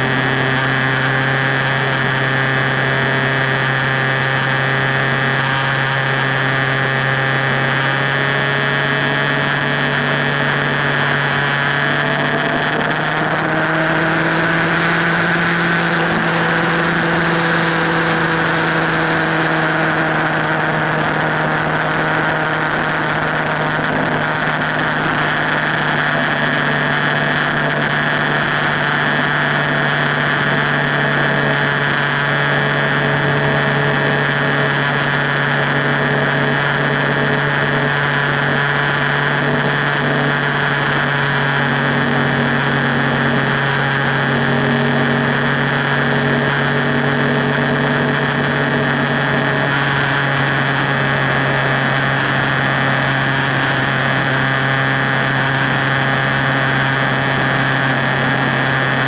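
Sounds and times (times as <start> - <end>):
motorcycle engine cruising: 0.0 - 59.0
wind and road noise: 0.0 - 59.0.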